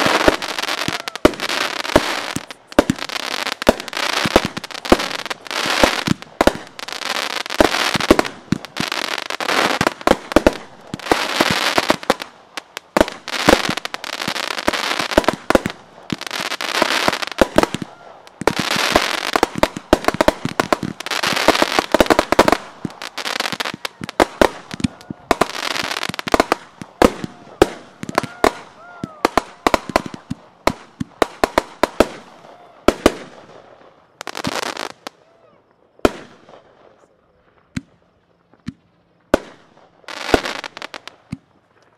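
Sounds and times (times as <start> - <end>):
fireworks bangs: 0.0 - 35.2, 35.9 - 41.9
fireworks hiss and crackle: 0.0 - 41.9.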